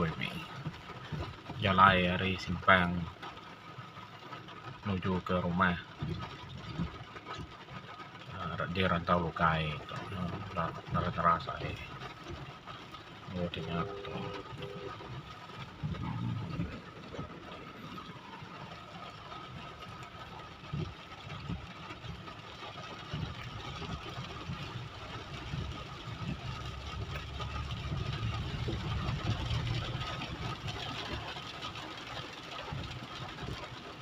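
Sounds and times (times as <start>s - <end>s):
road and wind noise: 0.0s - 13.6s, 14.4s - 34.0s.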